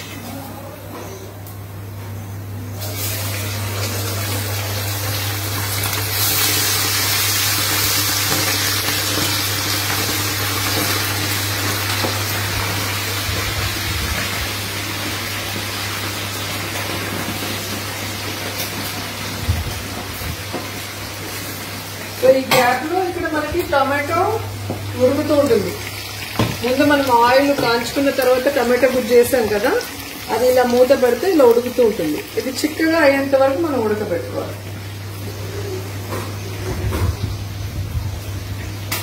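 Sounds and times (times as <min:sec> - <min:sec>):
chicken deep-frying in oil: 0:02.6 - 0:39.0.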